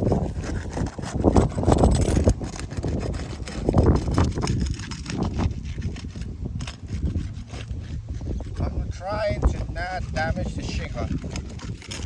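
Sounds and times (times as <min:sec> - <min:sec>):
pry bar scraping under shingle: 0:00.0 - 0:12.0
wind rumbling on microphone: 0:00.0 - 0:12.0.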